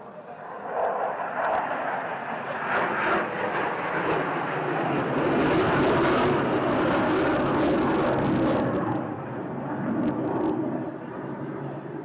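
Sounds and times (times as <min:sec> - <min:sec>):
fighter jet engines roaring: 0:00.0 - 0:12.0.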